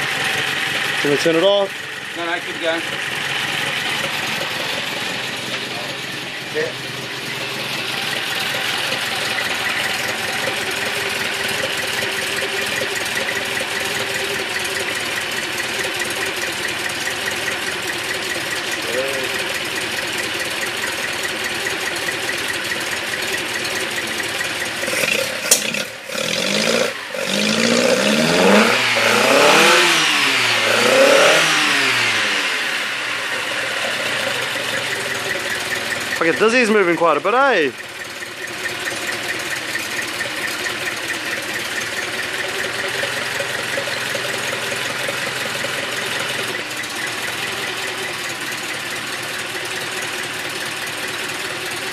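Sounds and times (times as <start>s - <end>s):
car engine revving and idling: 0.0s - 51.9s.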